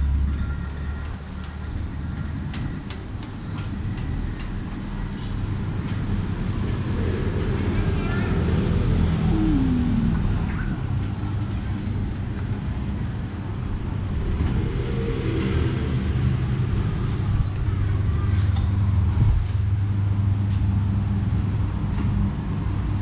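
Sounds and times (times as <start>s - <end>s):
street traffic noise: 0.0s - 23.0s
vehicle engine humming: 0.0s - 23.0s.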